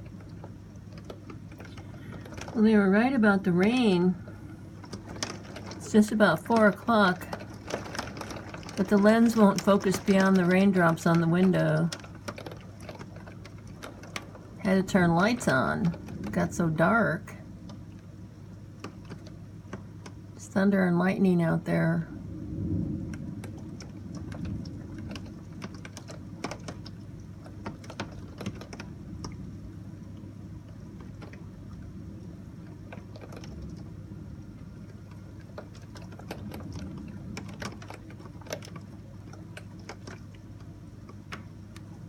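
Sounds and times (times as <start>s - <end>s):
heavy rain: 0.0s - 18.1s, 22.1s - 42.0s
thunder rumble: 0.0s - 19.7s, 21.6s - 42.0s
raindrops tapping on window glass: 0.0s - 42.0s.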